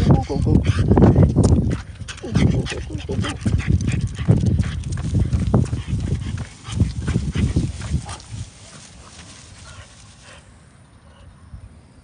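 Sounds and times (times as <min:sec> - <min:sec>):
dog breathing noisily and sniffing: 0:00.0 - 0:11.3.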